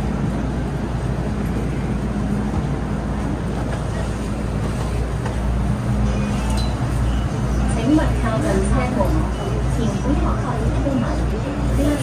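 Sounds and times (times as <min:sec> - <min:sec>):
train carriage hum and rumble: 0:00.0 - 0:12.0.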